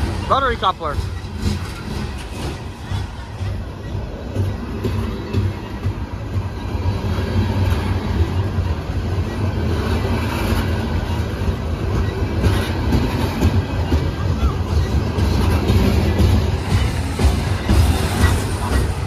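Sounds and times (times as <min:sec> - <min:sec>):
steel wheels rumbling on rail: 0:00.0 - 0:19.0
train couplers clattering: 0:00.0 - 0:19.0.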